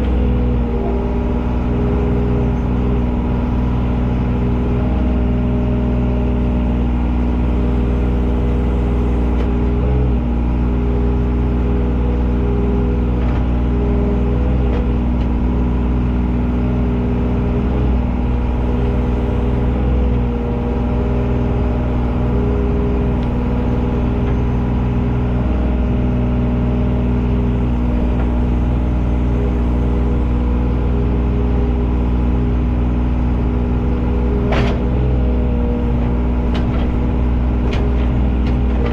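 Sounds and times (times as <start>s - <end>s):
work machine engine droning: 0.0s - 38.9s.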